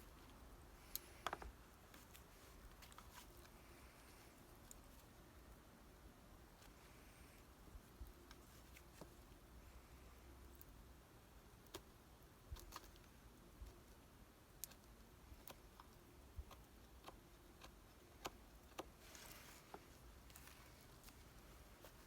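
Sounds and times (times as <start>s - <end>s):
soft hiss: 0.0s - 22.0s.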